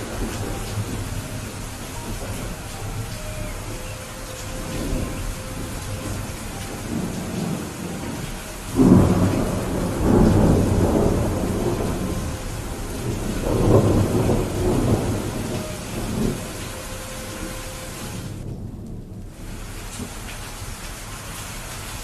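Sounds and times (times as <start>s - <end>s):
rolling thunder: 0.0s - 20.8s
steady rain: 0.0s - 22.0s.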